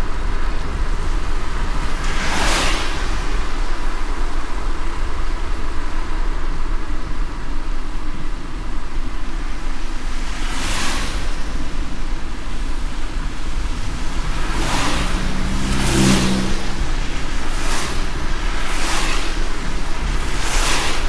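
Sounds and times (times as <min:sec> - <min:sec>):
car driving in rain: 0:00.0 - 0:21.0.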